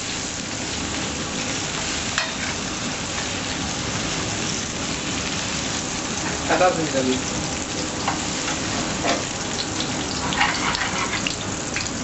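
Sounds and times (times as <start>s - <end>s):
gas burner flame hissing: 0.0s - 12.0s.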